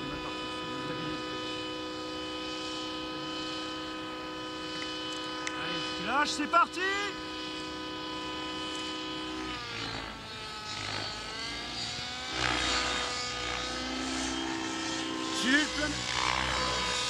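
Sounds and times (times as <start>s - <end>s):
model helicopter motor whine: 0.0s - 17.0s.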